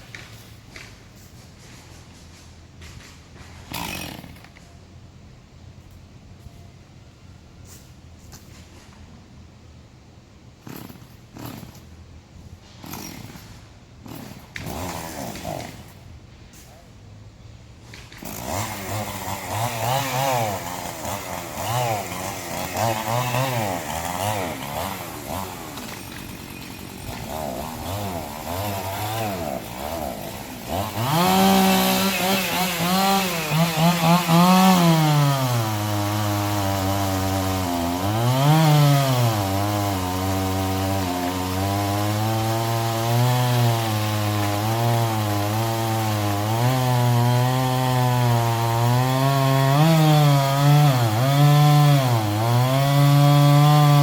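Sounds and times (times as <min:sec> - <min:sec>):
chainsaw cutting logs: 0:00.0 - 0:04.9, 0:10.4 - 0:16.6, 0:17.8 - 0:54.0.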